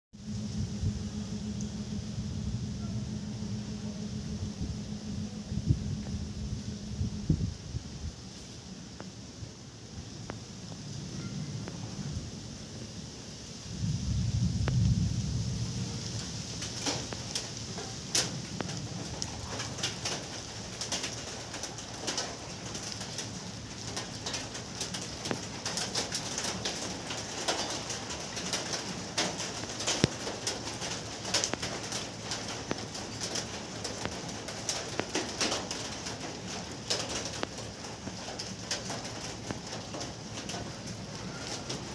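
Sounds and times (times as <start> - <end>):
low thunder rumble: 0.2 - 41.9
steady rain with drips: 0.2 - 41.9.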